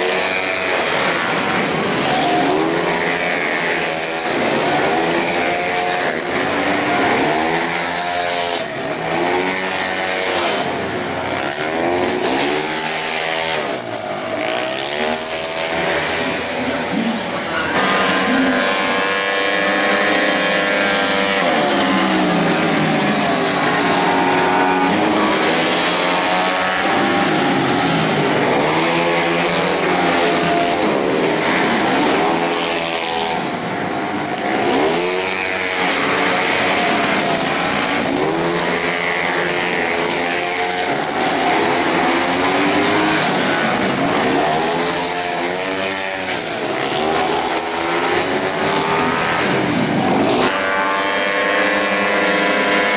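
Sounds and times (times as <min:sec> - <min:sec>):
racing motorcycles passing: 0:00.0 - 0:52.9.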